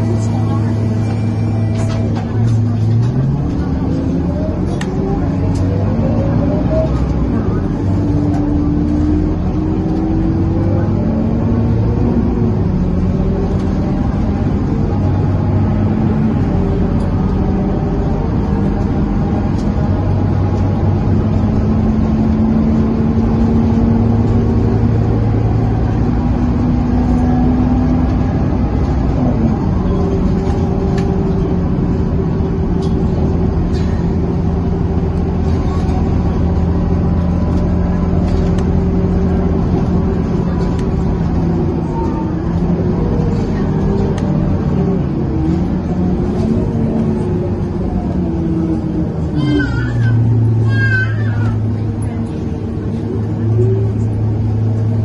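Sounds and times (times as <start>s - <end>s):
bus diesel engine: 0.0s - 55.0s.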